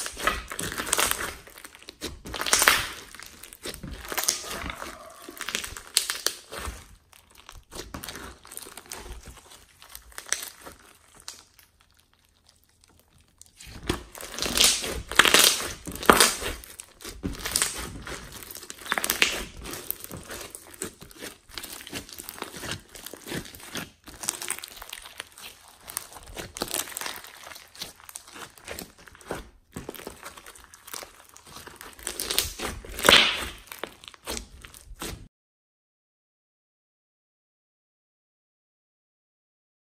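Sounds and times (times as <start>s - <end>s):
slime with foam beads crackling: 0.0s - 35.3s.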